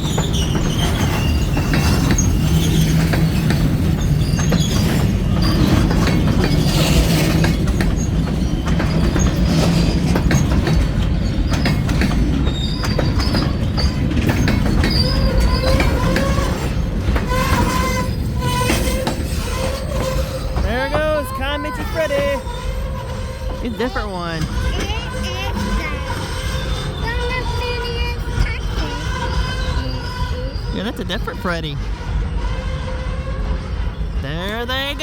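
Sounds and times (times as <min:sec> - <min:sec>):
train wheels rumbling on rails: 0:00.0 - 0:35.0
wheel squeals: 0:00.0 - 0:35.0.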